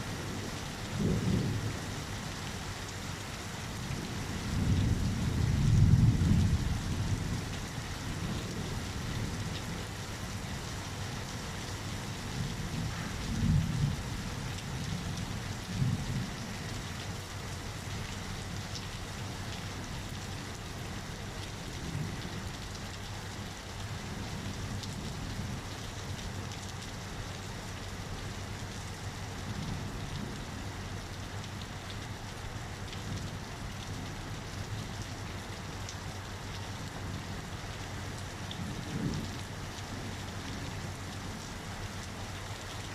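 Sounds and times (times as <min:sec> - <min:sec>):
heavy rain: 0:00.0 - 0:42.9.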